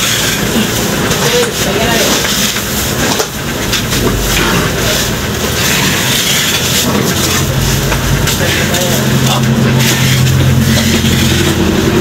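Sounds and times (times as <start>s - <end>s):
market noise: 0.0s - 12.0s.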